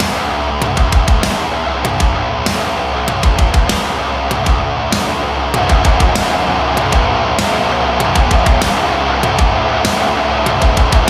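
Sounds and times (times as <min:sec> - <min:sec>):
distorted electric guitars: 0:00.0 - 0:11.0
drum kit beat: 0:00.0 - 0:11.0.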